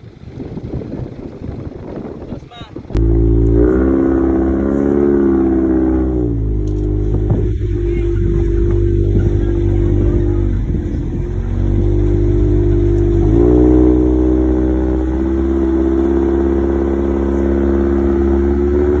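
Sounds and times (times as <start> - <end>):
car engine accelerating: 2.9 - 19.0.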